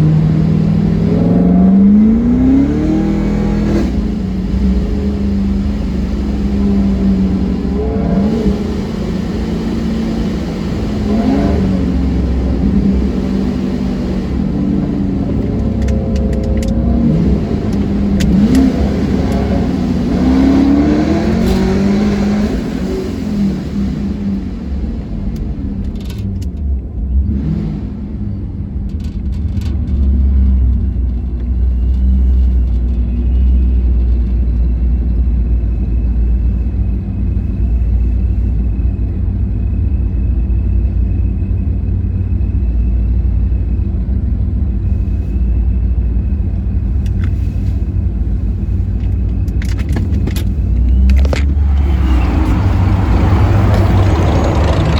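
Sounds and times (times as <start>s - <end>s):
car engine revving: 0.0s - 40.2s, 44.8s - 54.9s.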